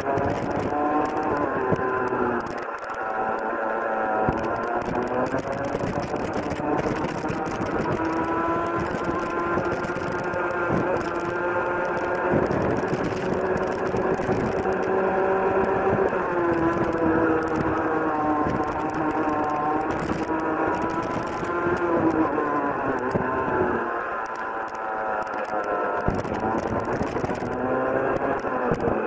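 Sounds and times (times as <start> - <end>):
kart engine at full throttle: 0.0 - 29.0.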